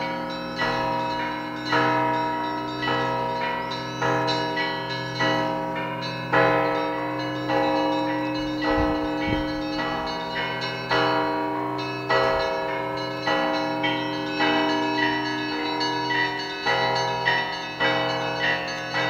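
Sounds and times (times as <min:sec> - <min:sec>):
church bells ringing: 0:00.0 - 0:19.0
low hum of large bell: 0:00.0 - 0:19.0.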